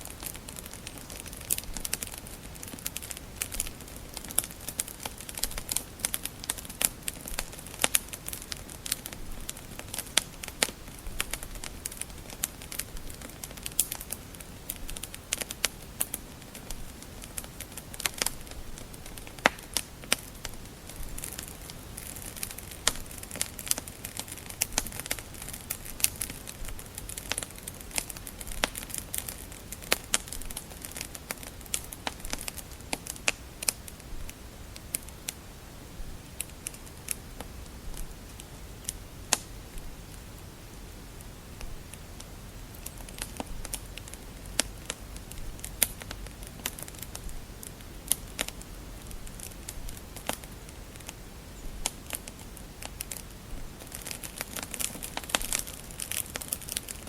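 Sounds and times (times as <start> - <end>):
low fire rumble and hiss: 0.0 - 57.0
wood fire crackling and popping: 0.0 - 57.0.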